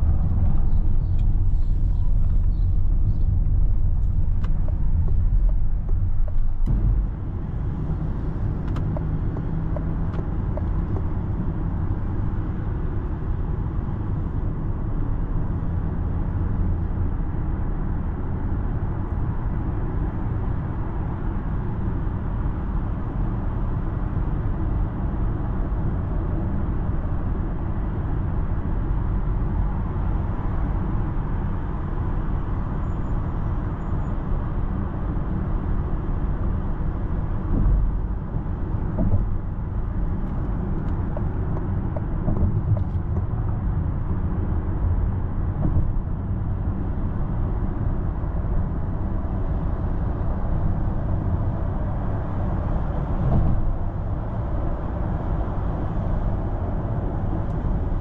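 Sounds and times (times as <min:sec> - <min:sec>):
road and tyre noise in car cabin: 0:00.0 - 0:58.0.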